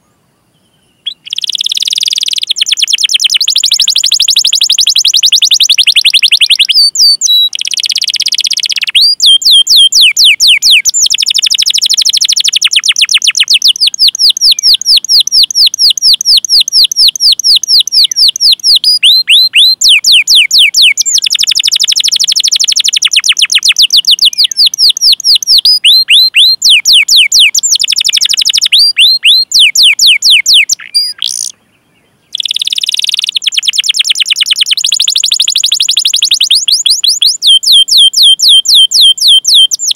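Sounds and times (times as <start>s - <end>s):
canary singing rapid chirps: 1.0s - 31.5s, 32.3s - 39.9s.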